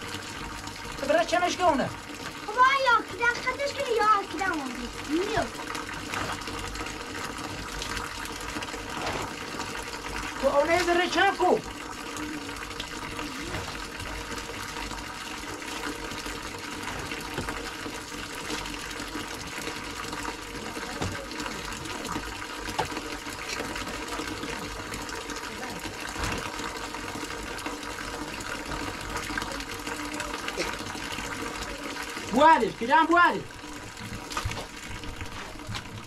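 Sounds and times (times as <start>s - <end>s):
running water: 0.0s - 36.0s.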